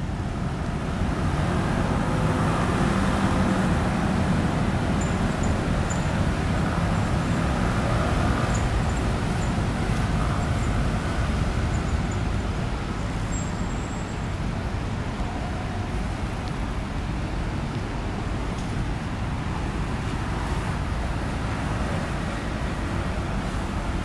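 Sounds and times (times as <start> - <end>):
city road traffic rumble: 0.0 - 24.0.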